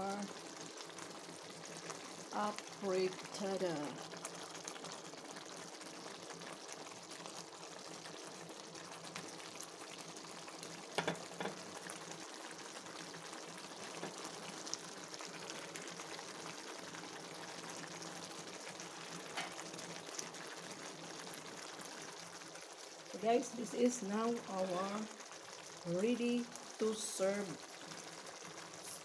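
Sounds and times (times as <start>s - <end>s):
sauce simmering in a pan: 0.0s - 29.0s.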